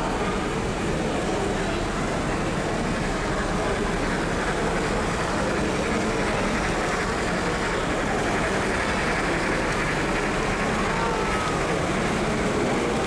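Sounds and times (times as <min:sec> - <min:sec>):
exhibition hall noise: 0:00.0 - 0:13.0
model trains running on track: 0:00.0 - 0:13.0.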